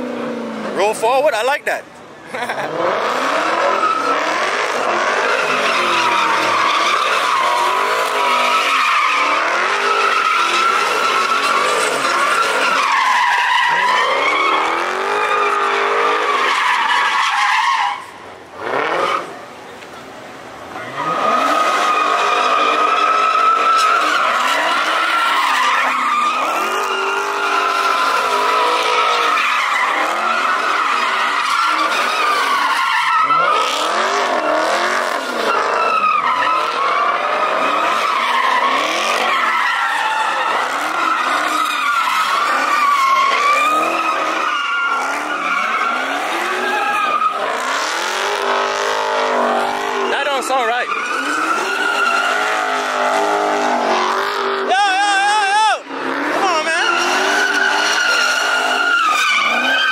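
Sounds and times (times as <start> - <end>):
tire squealing: 0.0 - 59.9
car engine revving: 2.4 - 17.1, 18.5 - 19.6, 20.3 - 54.8, 55.8 - 59.9.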